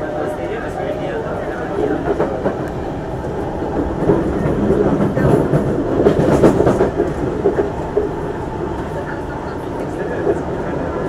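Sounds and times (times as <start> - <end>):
train wheels rumbling on track: 0.0 - 11.0
train wheels clacking: 1.5 - 10.6.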